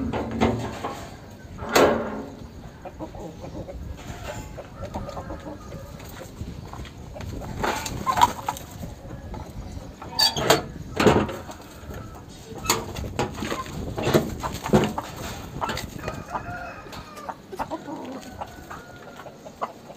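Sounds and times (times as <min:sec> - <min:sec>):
roosters clucking: 0:00.0 - 0:19.9.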